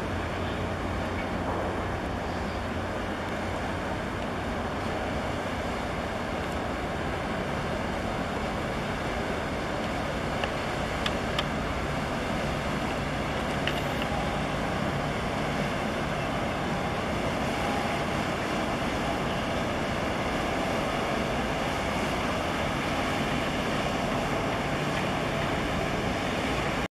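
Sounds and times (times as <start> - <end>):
diesel engine low rumble: 0.0 - 26.9
water wash: 0.0 - 26.9.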